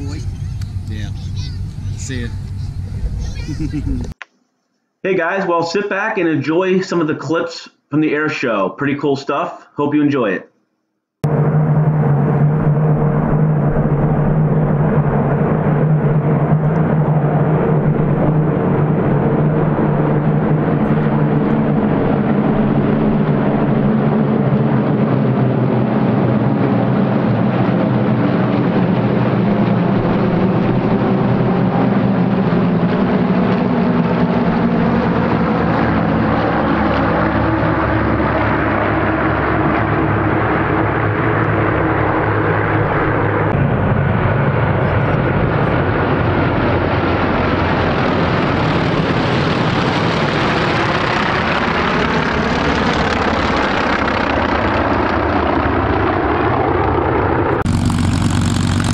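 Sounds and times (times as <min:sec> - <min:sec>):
propeller planes droning overhead: 0:00.0 - 0:04.2, 0:11.2 - 0:58.9.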